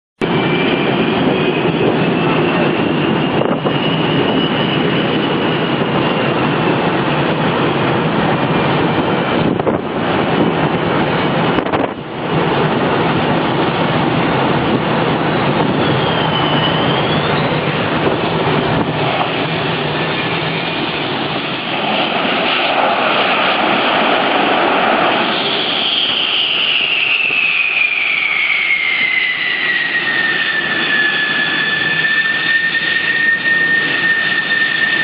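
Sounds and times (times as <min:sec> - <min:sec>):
high jet engine whine: 0:00.2 - 0:35.0
jet engines roaring: 0:00.2 - 0:35.0.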